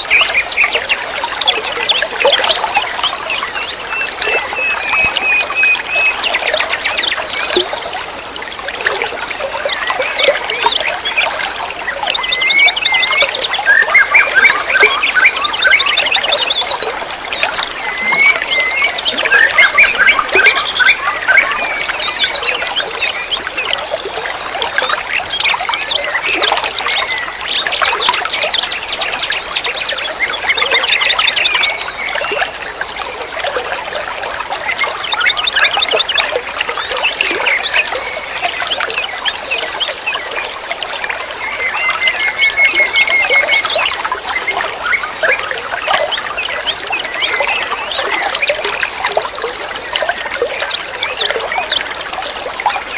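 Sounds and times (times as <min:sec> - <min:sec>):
songbird chirping and trilling: 0:00.0 - 0:52.9.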